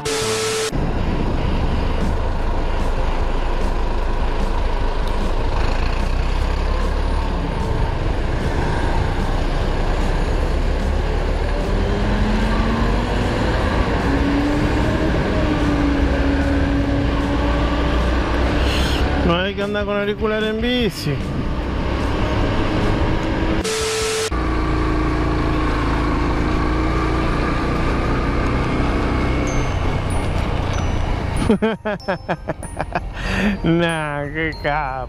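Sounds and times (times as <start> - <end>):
motorcycle engine: 0.0 - 19.6, 21.2 - 31.5
bus engine: 0.0 - 33.9
wind and road noise: 0.0 - 34.9.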